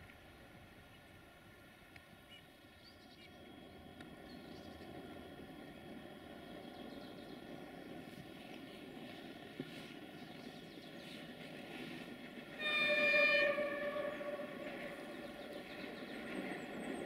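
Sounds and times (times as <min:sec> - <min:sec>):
distant diesel train rumble: 0:00.2 - 0:17.0.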